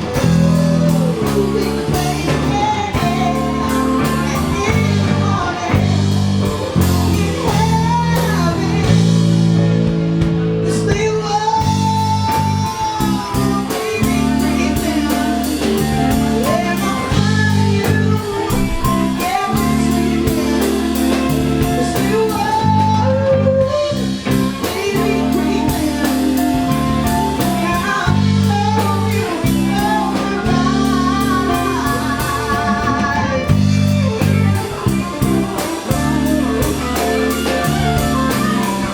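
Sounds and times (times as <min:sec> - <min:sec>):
drum kit beat: 0:00.0 - 0:38.9
electric guitar: 0:00.0 - 0:38.9
person singing: 0:00.0 - 0:38.9.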